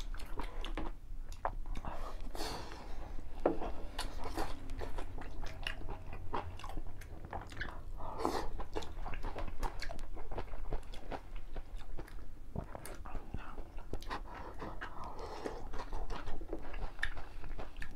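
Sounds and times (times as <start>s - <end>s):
people chewing: 0.0s - 17.9s.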